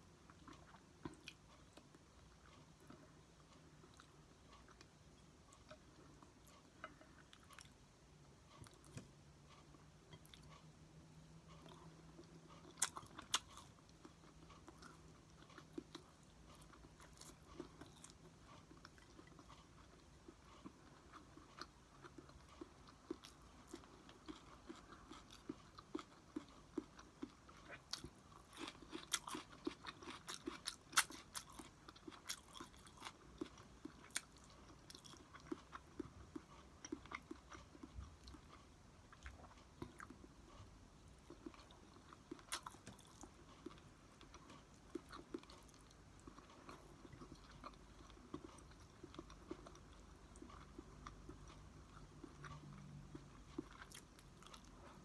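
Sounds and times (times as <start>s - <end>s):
person chewing rice: 0.0s - 55.0s.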